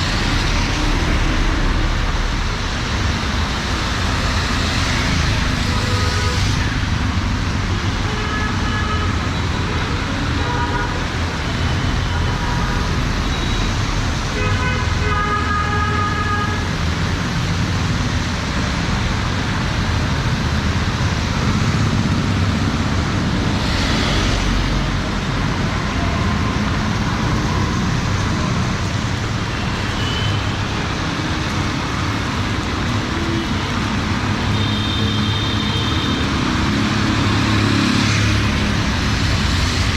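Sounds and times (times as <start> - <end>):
rain hissing on wet road: 0.0 - 14.4, 15.0 - 39.9.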